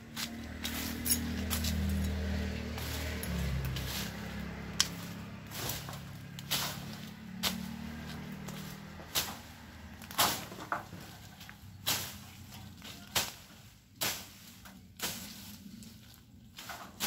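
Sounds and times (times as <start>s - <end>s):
stems cracking: 0.0s - 17.0s
weeds rustling and snapping: 0.0s - 17.0s.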